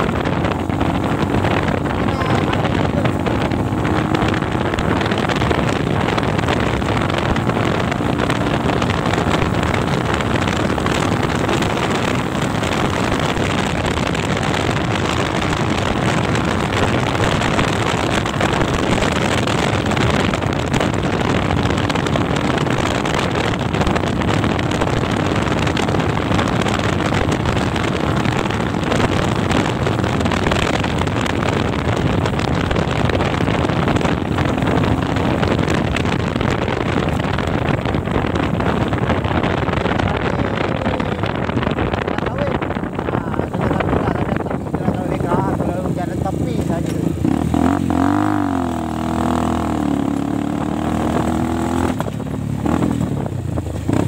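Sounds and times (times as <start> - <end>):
dirt bike engine running: 0.0 - 54.0
wind buffeting microphone: 0.0 - 54.0.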